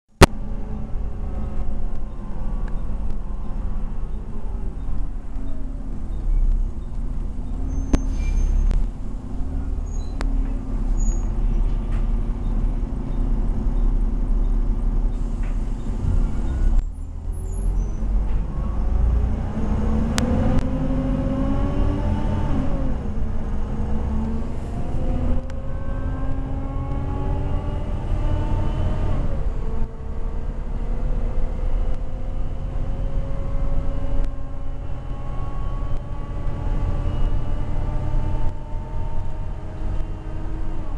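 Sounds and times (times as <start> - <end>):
bus engine rumble and whine: 0.2 - 40.9.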